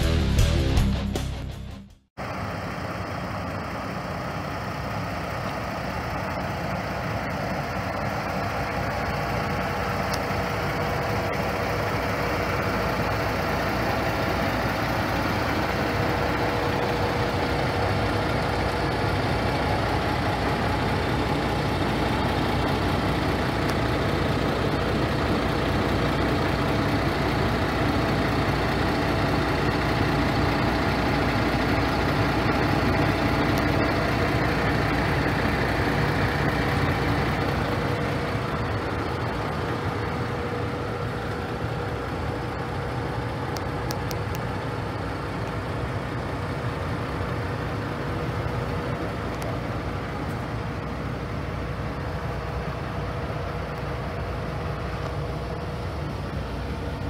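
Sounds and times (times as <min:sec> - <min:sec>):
diesel truck engine idling: 0:02.2 - 0:57.0.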